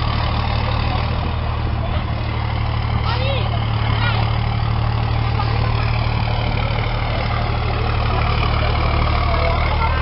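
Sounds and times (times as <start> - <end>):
diesel truck engines idling: 0.0 - 10.0.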